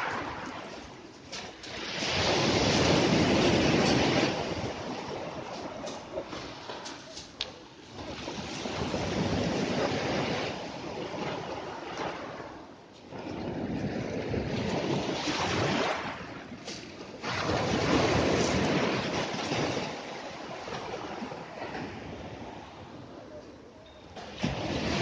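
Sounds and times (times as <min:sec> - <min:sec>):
sea waves breaking on shore: 0:00.0 - 0:23.3, 0:24.1 - 0:25.0
wind buffeting microphone: 0:00.0 - 0:23.4.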